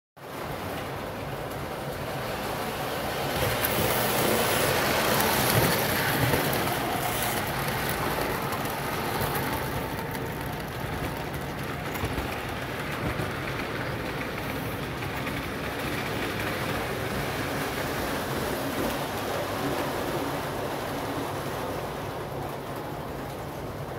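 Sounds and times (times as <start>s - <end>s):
model train rolling on track: 0.2s - 23.9s.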